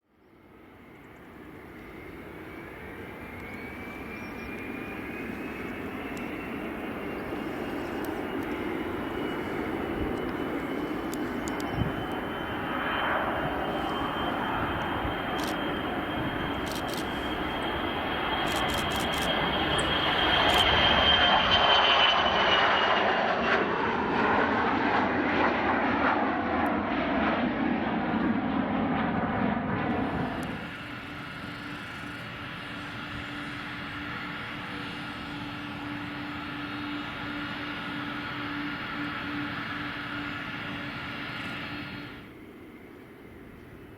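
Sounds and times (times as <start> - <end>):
jet aircraft passing: 0.3 - 43.9.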